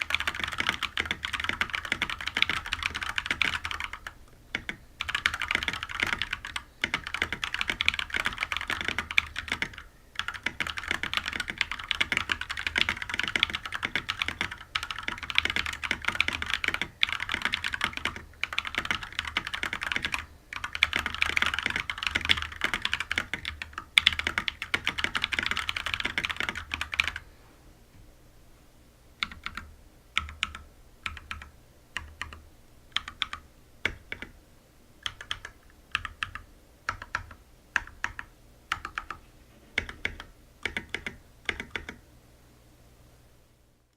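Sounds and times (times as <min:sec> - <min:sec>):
mechanical keyboard typing: 0:00.0 - 0:27.2, 0:29.2 - 0:34.4, 0:35.0 - 0:39.2, 0:39.8 - 0:42.0.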